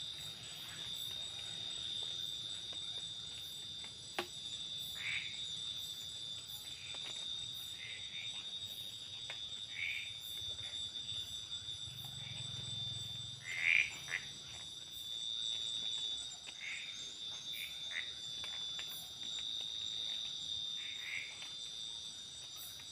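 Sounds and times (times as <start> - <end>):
frogs croaking: 0.0 - 22.9.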